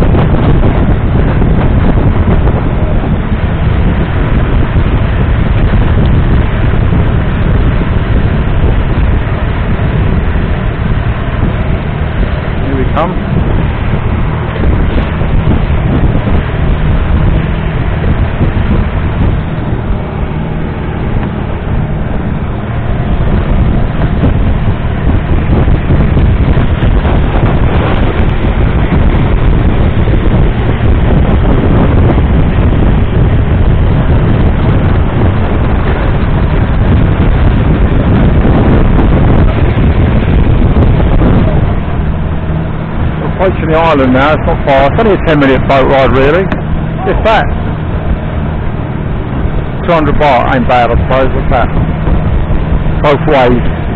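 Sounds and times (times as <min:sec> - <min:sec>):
boat diesel engine running: 0:00.0 - 0:53.9
wind buffeting microphone: 0:00.0 - 0:53.9.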